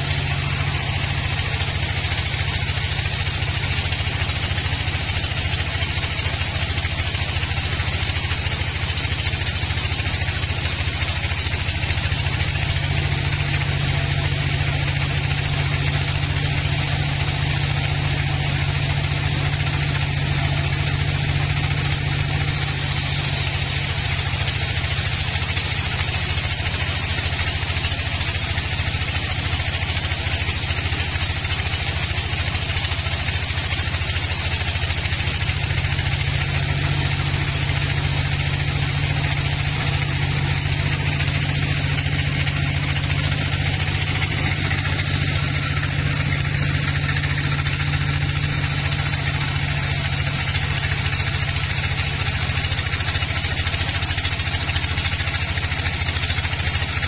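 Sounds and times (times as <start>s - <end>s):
band saw cutting a log: 0.0s - 57.0s.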